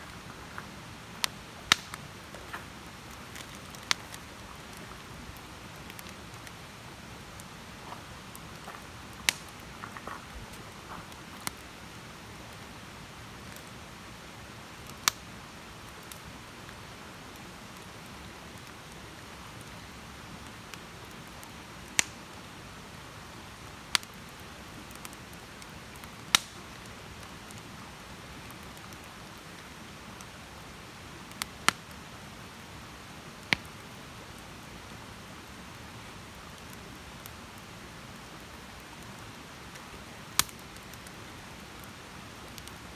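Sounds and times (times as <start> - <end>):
campfire hissing and crackling: 0.0 - 42.9.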